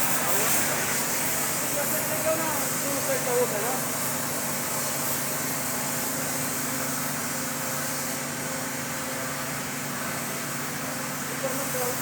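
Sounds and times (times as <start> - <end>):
machinery hiss and hum: 0.0 - 12.0.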